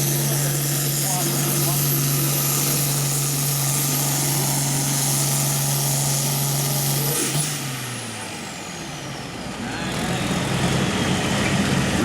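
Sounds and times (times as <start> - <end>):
tractor diesel engine: 0.0 - 12.0.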